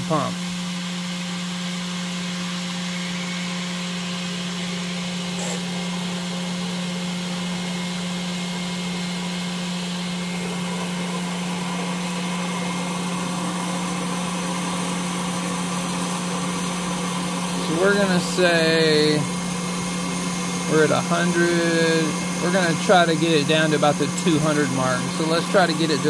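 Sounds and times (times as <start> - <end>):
pump humming: 0.0 - 26.0.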